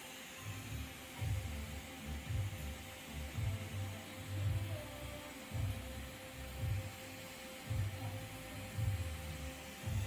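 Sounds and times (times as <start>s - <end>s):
steady hum: 0.0s - 10.0s
background music low pulse: 0.4s - 10.0s.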